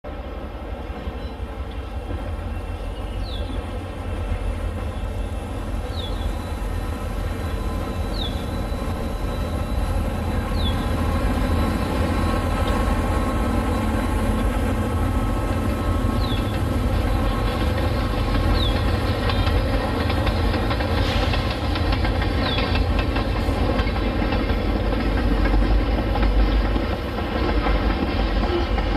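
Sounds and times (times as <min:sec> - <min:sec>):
diesel locomotive running: 0:00.1 - 0:28.9.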